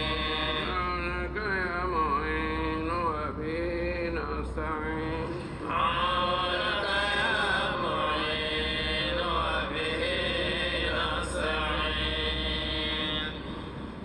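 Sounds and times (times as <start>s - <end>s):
man chanting: 0.0s - 13.4s
low steady hum: 0.0s - 14.0s.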